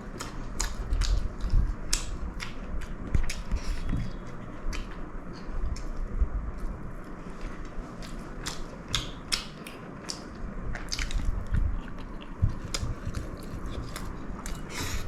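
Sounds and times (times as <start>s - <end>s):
person chewing food crunchily: 0.0s - 15.0s.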